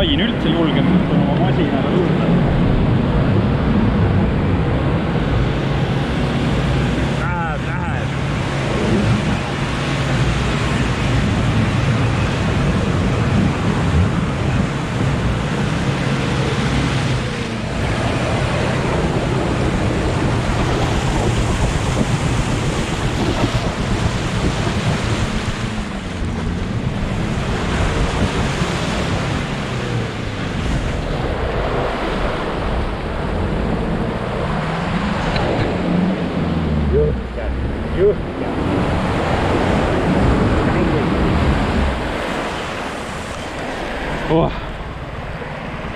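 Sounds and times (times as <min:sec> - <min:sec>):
wind buffeting microphone: 0:00.0 - 0:45.9
off-road vehicle engine under load: 0:08.1 - 0:45.9.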